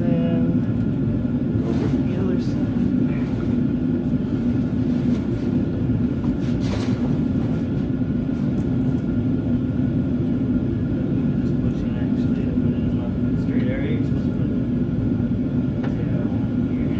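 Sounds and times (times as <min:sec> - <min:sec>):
low machine drone: 0:00.0 - 0:16.9.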